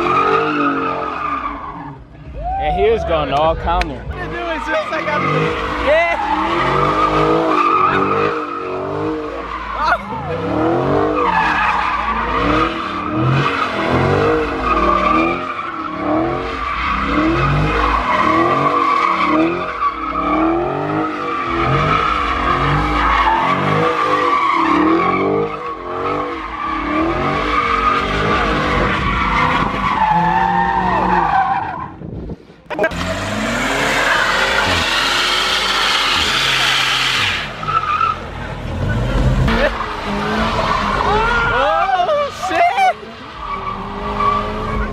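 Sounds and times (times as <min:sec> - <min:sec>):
car engine revving: 0:00.0 - 0:02.3, 0:03.3 - 0:31.6, 0:32.6 - 0:44.9
tire squealing: 0:00.0 - 0:44.9.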